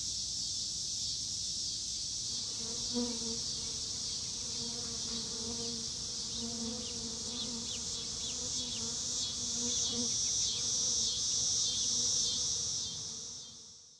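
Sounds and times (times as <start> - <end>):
insect chirps: 0.0 - 13.9.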